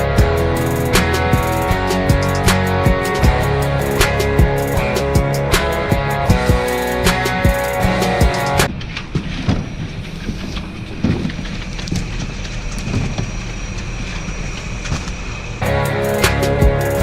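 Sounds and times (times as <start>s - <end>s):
diesel machinery rumbling: 0.0s - 17.0s
thin steady whine: 0.0s - 17.0s.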